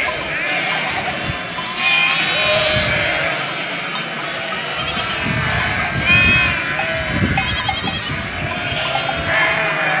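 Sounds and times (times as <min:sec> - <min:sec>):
goats bleating: 0:00.0 - 0:10.0.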